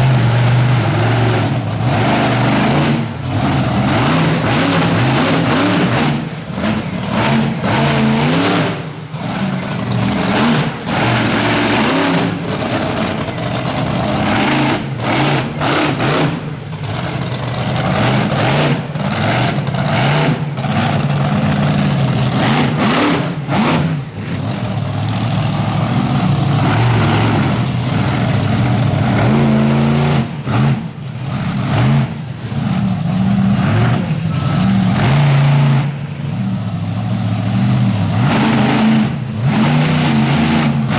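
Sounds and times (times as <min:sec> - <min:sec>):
truck engine revving hard: 0:00.0 - 0:40.9.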